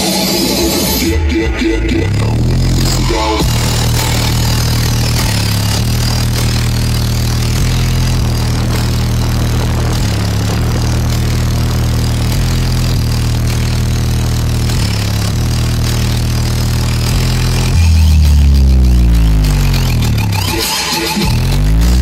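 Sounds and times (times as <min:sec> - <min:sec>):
loud bass-heavy music: 0:00.0 - 0:22.0
falling bass sweep: 0:01.0 - 0:20.6.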